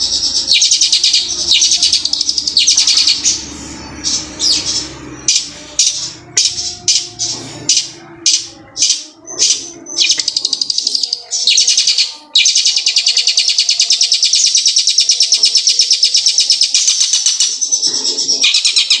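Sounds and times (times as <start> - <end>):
fast high bird trill: 0.0 - 19.0
shrike singing: 0.0 - 19.0.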